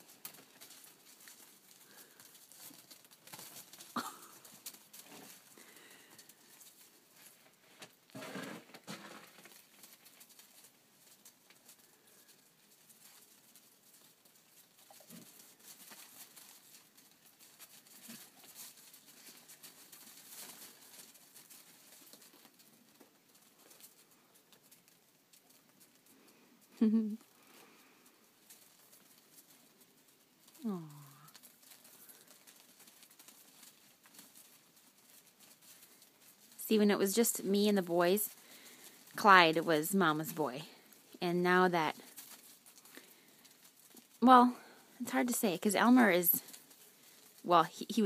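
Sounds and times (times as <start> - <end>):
animals pattering on snow: 0.0 - 26.6, 27.3 - 48.0.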